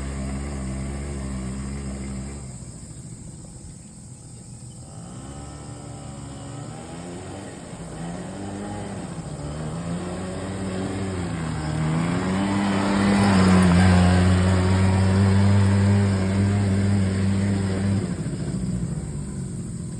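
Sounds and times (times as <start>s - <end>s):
buggy engine at full throttle: 0.0s - 19.9s.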